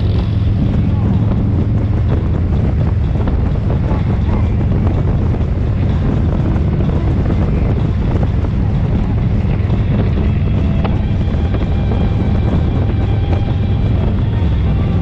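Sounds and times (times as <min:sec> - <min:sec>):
motorcycle engine drone: 0:00.0 - 0:15.0
wind buffeting microphone: 0:00.0 - 0:15.0.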